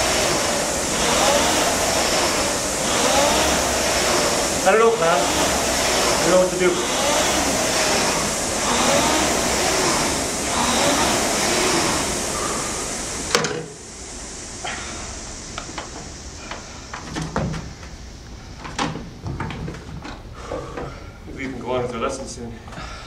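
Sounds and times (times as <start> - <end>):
rowing machine flywheel whooshing: 0.0 - 19.2.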